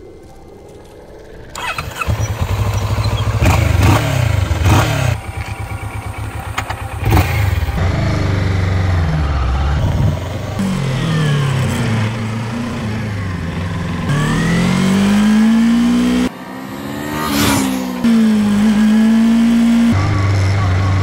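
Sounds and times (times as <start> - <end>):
motorcycle engine revving: 1.4 - 21.0.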